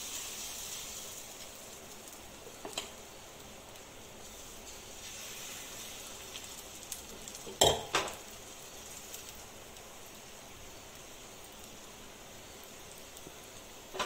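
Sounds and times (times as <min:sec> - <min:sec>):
batter sizzling in hot oil: 0:00.0 - 0:14.0.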